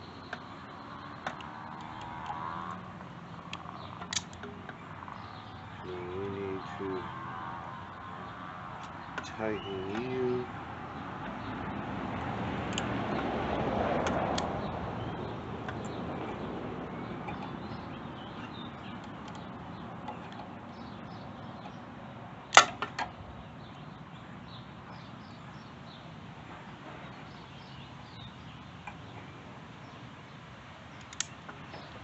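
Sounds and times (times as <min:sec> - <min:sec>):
faint background noise: 0:00.0 - 0:32.0.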